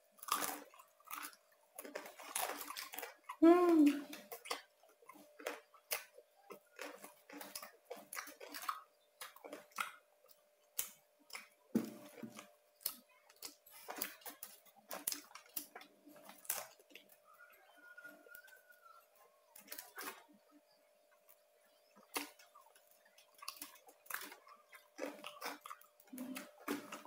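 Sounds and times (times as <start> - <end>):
mouth chewing crunchy food: 0.0 - 27.0.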